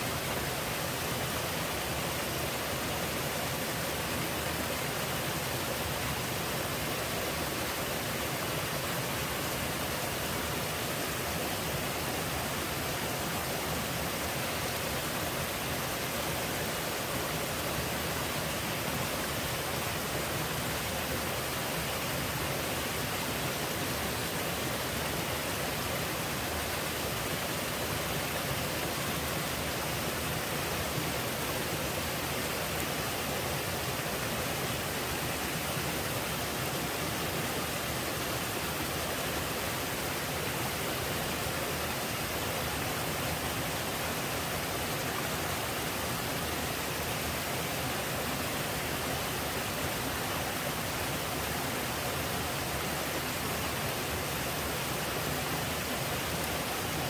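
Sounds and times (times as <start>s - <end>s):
waterfall splashing over rocks: 0.0s - 57.0s.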